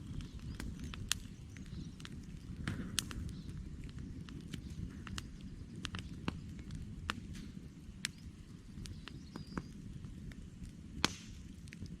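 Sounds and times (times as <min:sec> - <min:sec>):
campfire crackling and popping: 0:00.0 - 0:12.0
low rumble of flames: 0:00.0 - 0:12.0.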